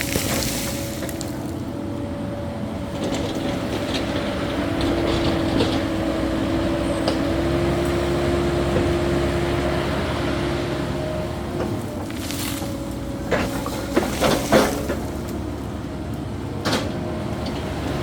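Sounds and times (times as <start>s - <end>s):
excavator engine drone: 0.0s - 18.0s.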